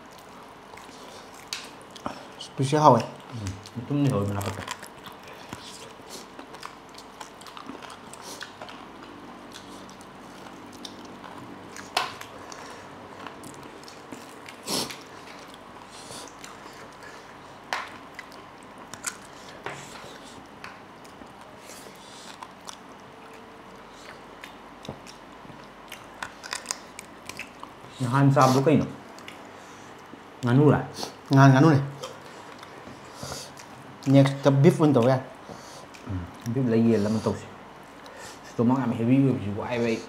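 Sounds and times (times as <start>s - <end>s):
people chewing food: 0.0s - 40.0s.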